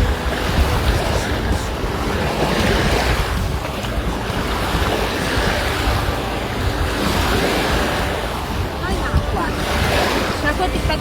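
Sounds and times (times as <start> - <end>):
sea waves breaking on beach: 0.0 - 11.0
wind rumbling on microphone: 0.0 - 11.0.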